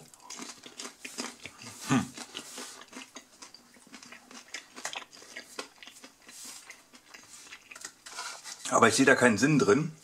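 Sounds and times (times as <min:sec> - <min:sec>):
chewing crunchy fried chicken: 0:00.0 - 0:08.6.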